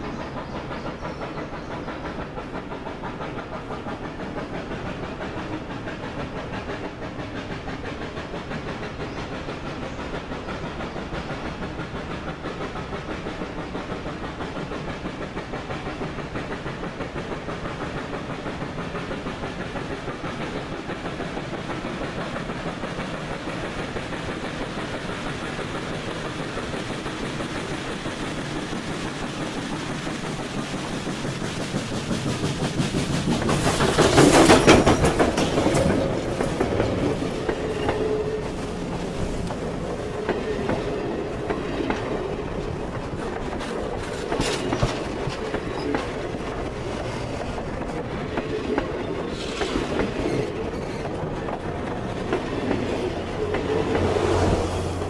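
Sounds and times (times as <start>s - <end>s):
steam hissing: 0.0s - 55.0s
steam locomotive chuffing: 0.0s - 55.0s.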